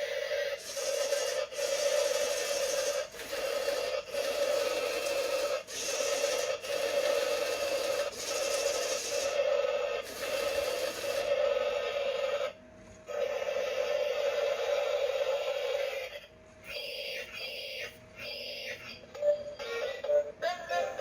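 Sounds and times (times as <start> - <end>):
toy electric motor whining: 0.0 - 21.0.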